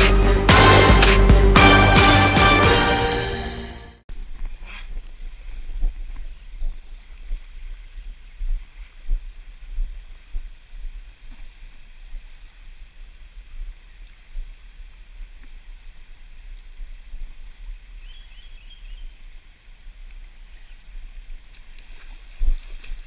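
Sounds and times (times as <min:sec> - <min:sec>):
wind rumbling on microphone: 0:04.1 - 0:23.0.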